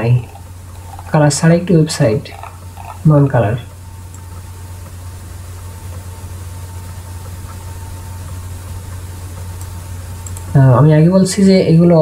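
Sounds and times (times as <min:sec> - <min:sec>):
low electrical fan hum: 0:00.0 - 0:12.0.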